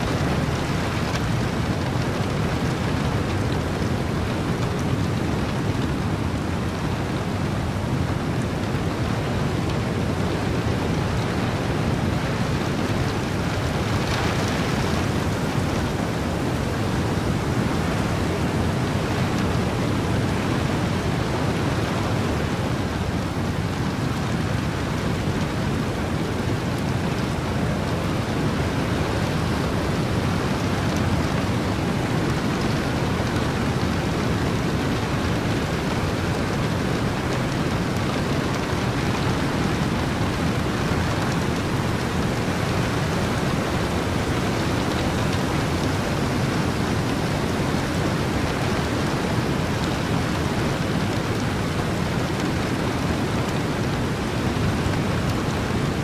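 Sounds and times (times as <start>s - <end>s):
ocean surf: 0.0s - 5.5s, 10.6s - 56.0s
heavy rain: 0.0s - 56.0s
wind: 0.0s - 56.0s.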